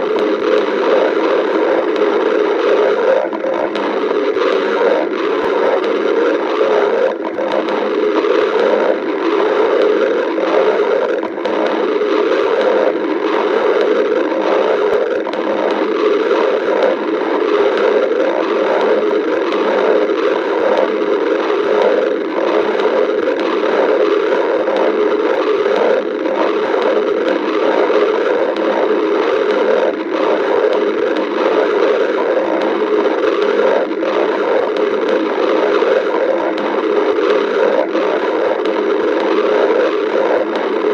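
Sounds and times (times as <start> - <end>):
stomach growling: 0.0 - 40.9.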